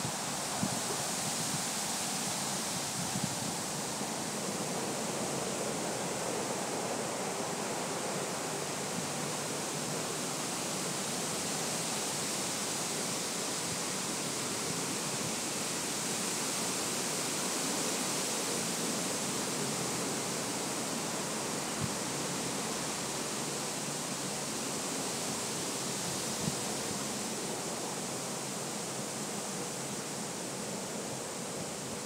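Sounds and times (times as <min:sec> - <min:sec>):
wind rustling through trees: 0:00.0 - 0:32.0.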